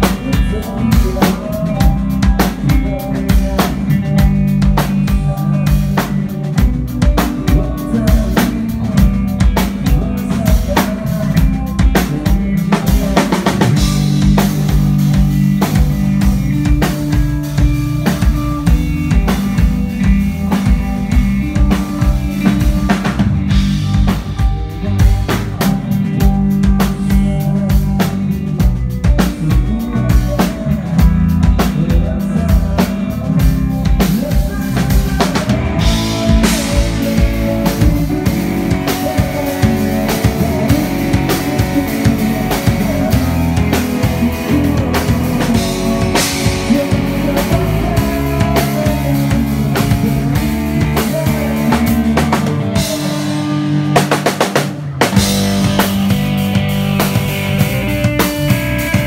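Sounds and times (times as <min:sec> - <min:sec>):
bass guitar notes: 0:00.0 - 0:59.0
drum kit beat: 0:00.0 - 0:59.0
electric guitar: 0:00.0 - 0:59.0.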